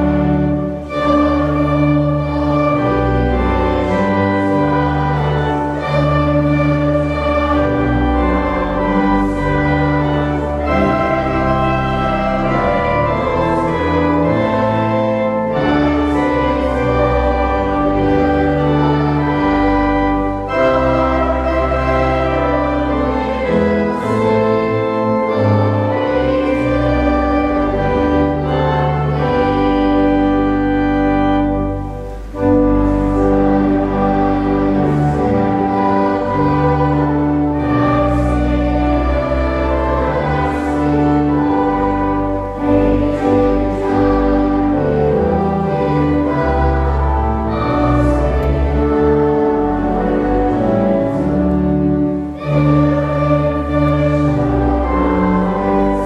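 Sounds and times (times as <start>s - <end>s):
girls' choir singing: 0.0s - 56.0s
grand piano accompaniment: 0.0s - 56.0s.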